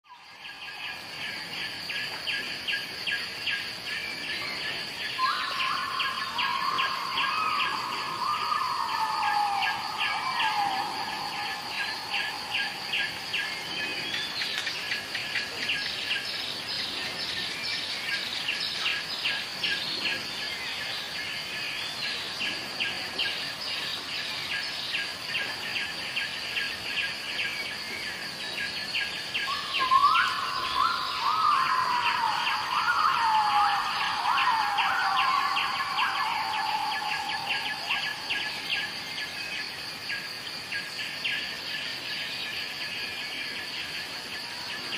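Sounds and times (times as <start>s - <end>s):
insects chirping: 0.1s - 44.9s.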